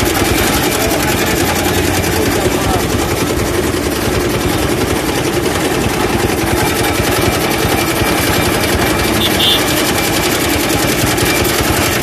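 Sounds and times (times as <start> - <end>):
juice machine rollers turning: 0.0 - 12.0.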